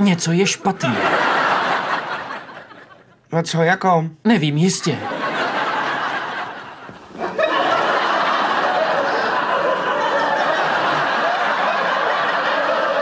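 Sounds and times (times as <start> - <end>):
studio audience laughing: 0.4 - 3.2, 4.7 - 13.0.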